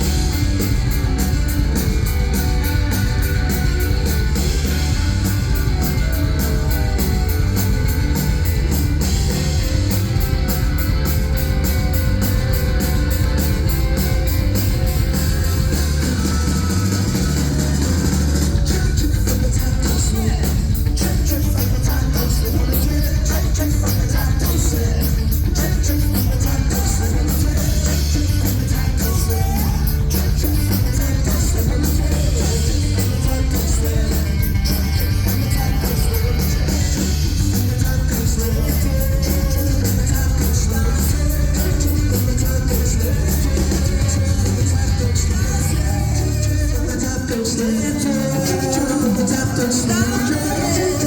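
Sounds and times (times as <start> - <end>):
live rock band playing: 0.0 - 51.0
sung vocals: 0.0 - 51.0.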